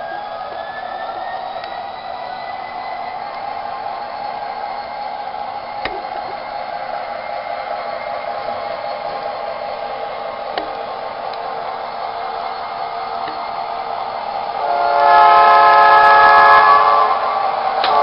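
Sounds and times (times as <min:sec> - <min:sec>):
model train whirring hum: 0:00.0 - 0:18.0.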